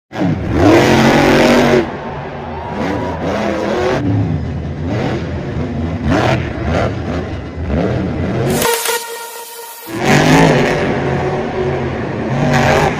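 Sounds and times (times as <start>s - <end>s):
monster truck engine revving: 0.1s - 9.0s, 9.8s - 12.9s.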